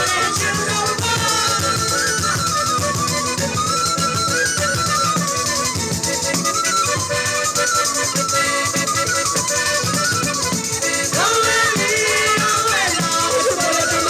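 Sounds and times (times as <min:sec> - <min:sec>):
frame drum with jingles: 0:00.0 - 0:14.0
gliding melody line: 0:00.0 - 0:14.0.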